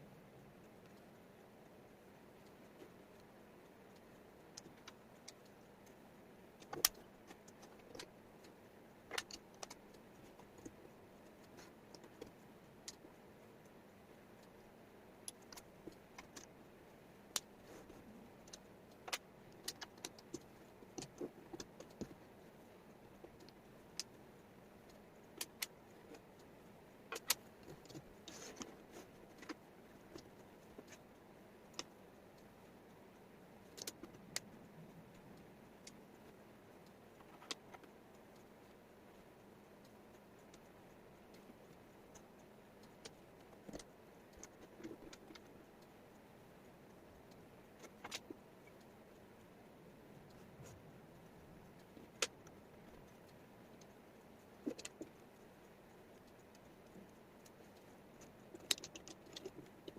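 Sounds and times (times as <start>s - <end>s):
low steady hiss: 0.0s - 59.9s.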